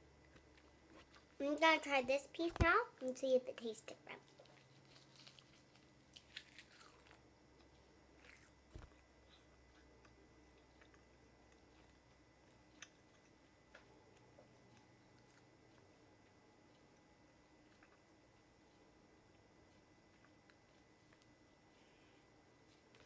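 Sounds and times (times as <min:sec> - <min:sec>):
child chewing crisp seaweed: 0:00.2 - 0:01.4, 0:04.2 - 0:23.0.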